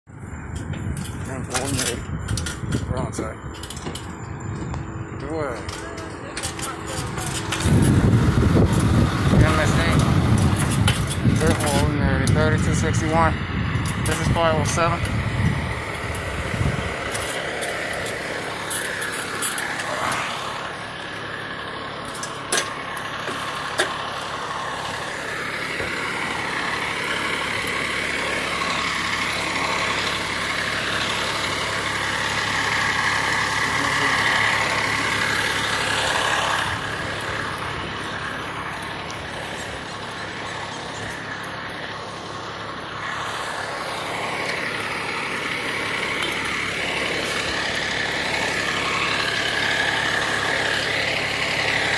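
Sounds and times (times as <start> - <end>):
vehicle engine running: 0.1 - 51.9.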